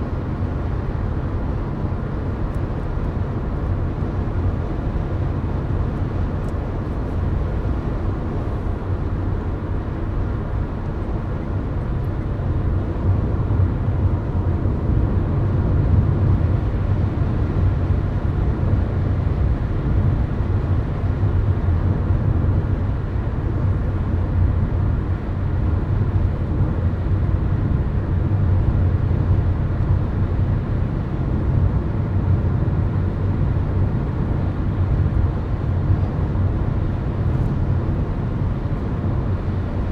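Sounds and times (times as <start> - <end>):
car interior highway rumble: 0.0 - 39.9.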